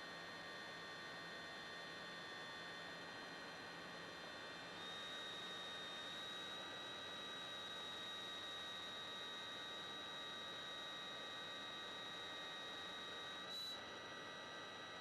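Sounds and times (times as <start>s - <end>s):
high-pitched electric motor whine: 2.6s - 15.0s.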